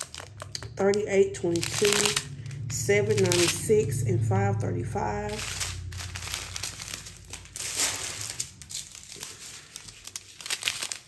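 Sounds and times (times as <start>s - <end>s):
plastic bags crinkling: 0.0s - 3.7s, 5.3s - 11.0s.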